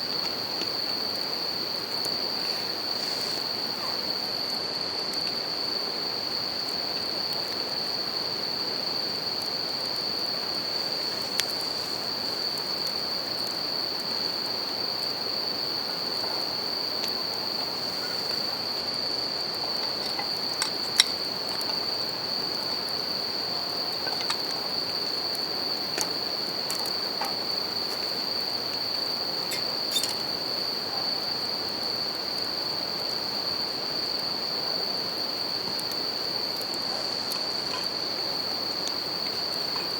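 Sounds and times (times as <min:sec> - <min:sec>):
campfire crackling: 0:00.0 - 0:39.9
crickets ringing: 0:00.0 - 0:39.9.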